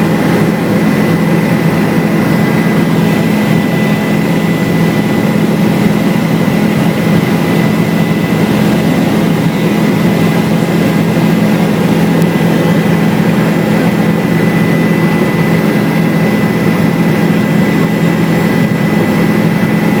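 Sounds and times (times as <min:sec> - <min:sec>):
helicopter rotor and engine drone: 0:00.0 - 0:20.0.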